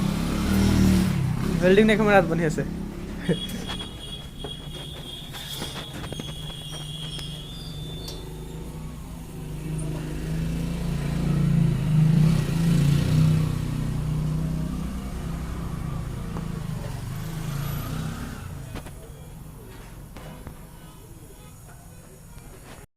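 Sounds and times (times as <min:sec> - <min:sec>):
vehicle engine passing: 0:00.0 - 0:18.9.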